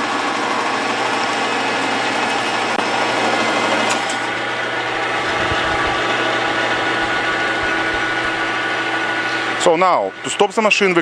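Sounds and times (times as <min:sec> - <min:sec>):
lathe gear whine: 0:00.0 - 0:11.0.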